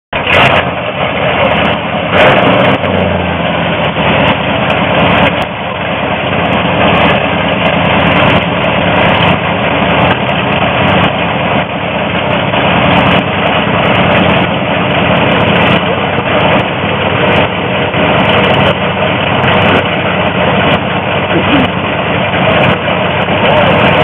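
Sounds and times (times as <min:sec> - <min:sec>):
car engine idling loudly: 0:00.1 - 0:24.0.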